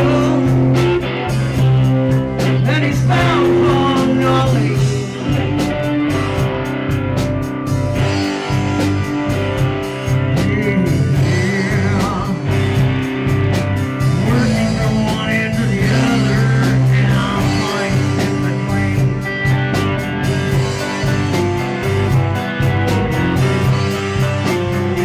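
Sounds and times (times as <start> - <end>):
bass guitar: 0.0 - 25.0
drum beat: 0.0 - 25.0
electric guitar: 0.0 - 25.0
keyboard: 0.0 - 25.0.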